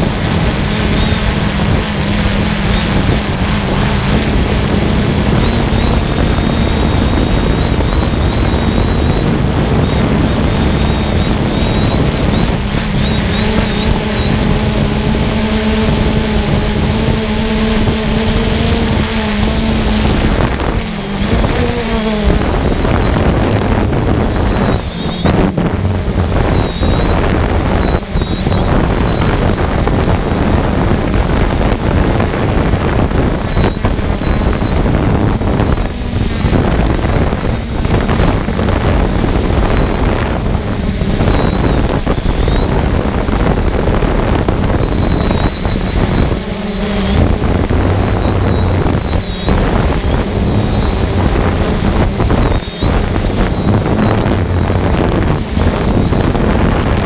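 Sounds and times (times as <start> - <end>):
drone propeller whine: 0.0 - 57.0
wind rumble on microphone: 0.0 - 57.0.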